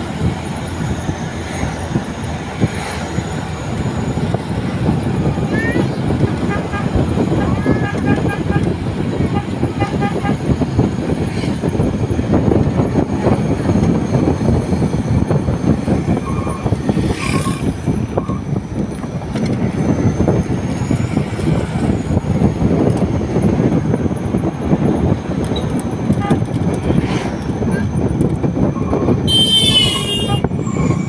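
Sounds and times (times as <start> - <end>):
tyre and road noise: 0.0 - 31.0
wind rushing over microphone: 0.0 - 31.0.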